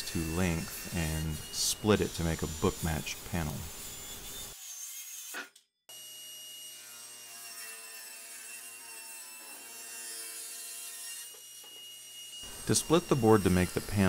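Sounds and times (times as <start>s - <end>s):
table saw cutting wood: 0.0s - 14.0s.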